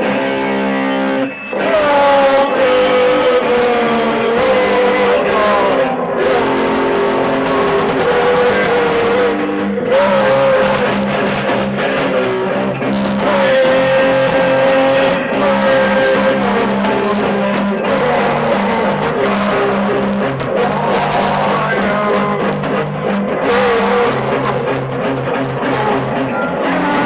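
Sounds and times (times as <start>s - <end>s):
guitar chords: 0.0s - 27.0s
held melody line bending notes: 0.0s - 27.0s.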